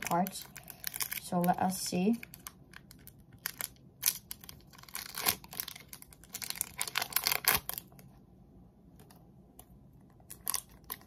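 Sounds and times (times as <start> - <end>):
card wrapper crinkling: 0.0 - 8.1, 10.2 - 11.0.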